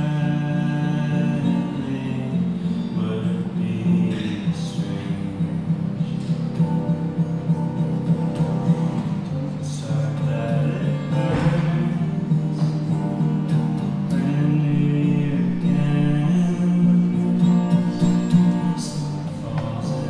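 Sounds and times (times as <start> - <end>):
man singing: 0.0 - 6.5, 9.0 - 20.0
acoustic guitar: 0.0 - 20.0.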